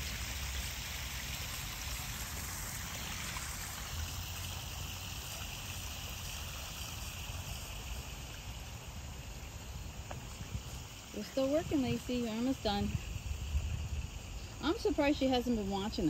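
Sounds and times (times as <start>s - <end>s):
water trickling into a pond: 0.0s - 16.0s.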